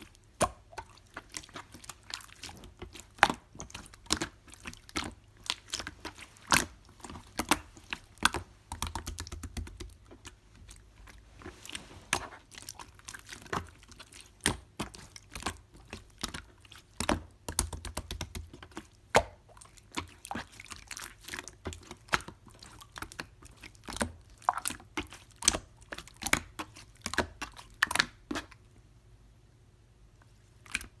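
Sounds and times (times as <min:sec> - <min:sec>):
slime squished by hand: 0:00.0 - 0:28.6.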